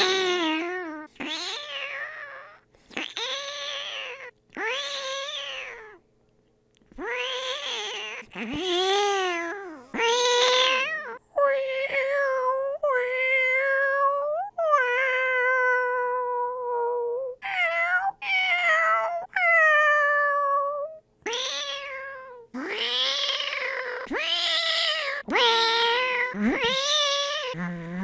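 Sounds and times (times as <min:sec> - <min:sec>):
person imitating cat meows: 0:00.0 - 0:06.0, 0:07.0 - 0:28.0.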